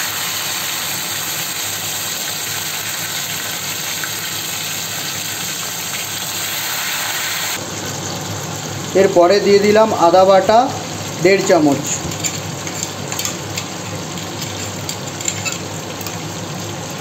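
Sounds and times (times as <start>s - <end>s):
tomato sizzling in hot oil: 0.0s - 17.0s.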